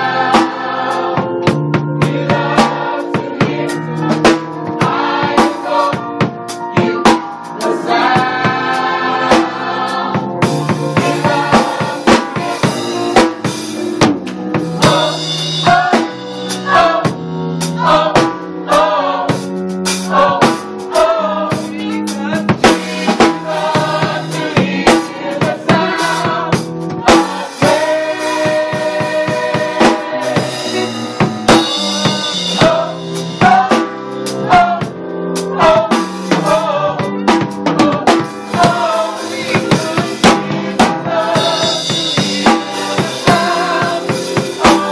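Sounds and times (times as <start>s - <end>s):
gospel choir singing: 0.0s - 13.8s, 14.6s - 44.9s
bass notes: 0.0s - 44.9s
drum kit beat: 0.0s - 44.9s.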